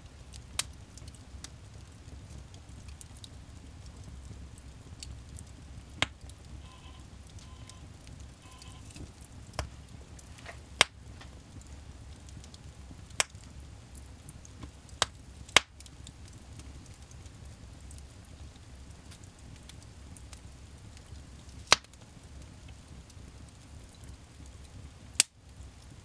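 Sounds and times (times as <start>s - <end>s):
faint fire ticks: 0.0s - 26.0s
low rumble of flame: 0.0s - 26.0s
wood fire crackling pops: 0.0s - 26.0s.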